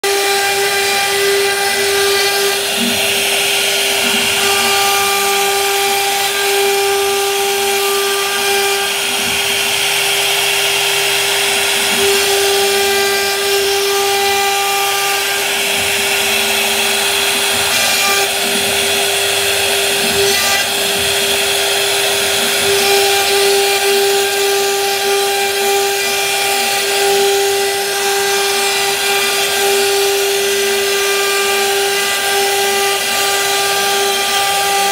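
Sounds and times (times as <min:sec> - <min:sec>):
router spindle whining: 0:00.0 - 0:34.9.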